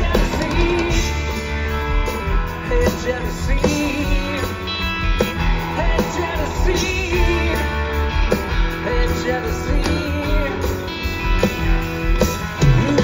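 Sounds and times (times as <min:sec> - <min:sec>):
lead vocal singing: 0:00.0 - 0:01.6, 0:02.5 - 0:11.0, 0:12.6 - 0:13.0
electric guitars: 0:00.0 - 0:13.0.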